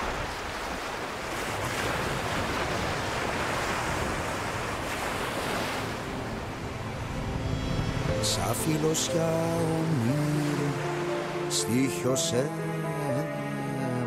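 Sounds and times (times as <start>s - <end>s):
small waves washing on beach: 0.0s - 12.8s.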